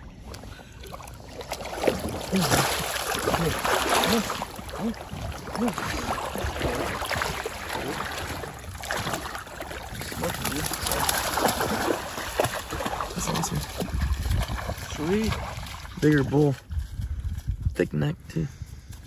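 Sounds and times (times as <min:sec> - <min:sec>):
water sloshing and splashing: 0:00.0 - 0:17.5.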